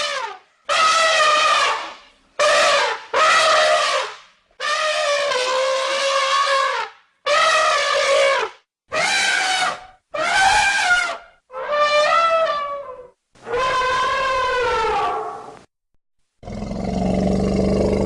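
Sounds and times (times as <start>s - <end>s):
elephant trumpeting: 0.0s - 15.5s.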